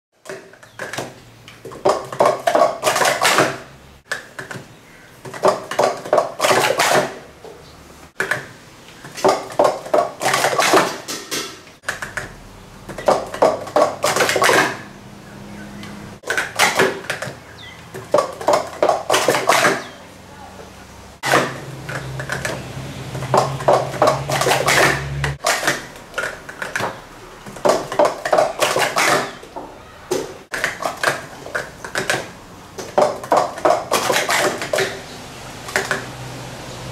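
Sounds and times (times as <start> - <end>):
plastic cups clattering: 0.2 - 7.6, 8.2 - 15.0, 16.2 - 20.0, 20.6 - 36.3.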